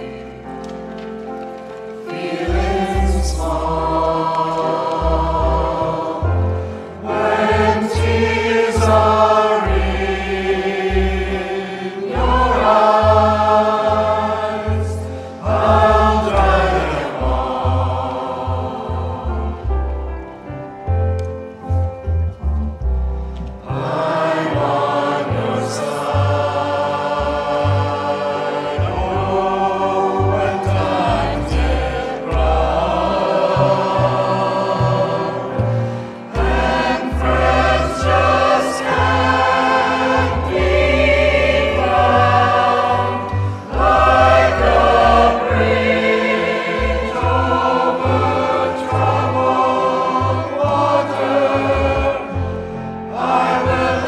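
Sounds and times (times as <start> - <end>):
choir singing: 0.0 - 1.0, 1.9 - 20.3, 23.6 - 54.0.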